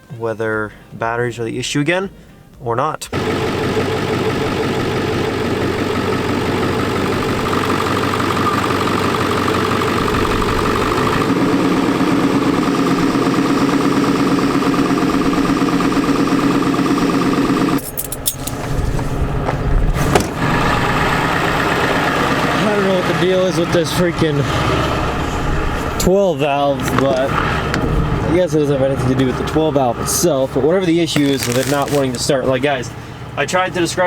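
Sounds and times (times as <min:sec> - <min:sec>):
diesel engine running: 0:03.1 - 0:34.0.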